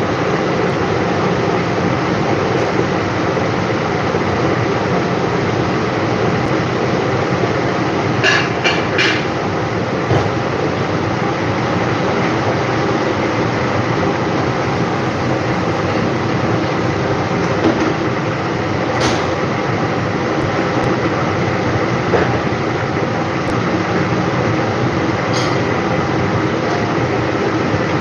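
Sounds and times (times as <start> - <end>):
kitchen exhaust fan rushing: 0.0 - 28.0.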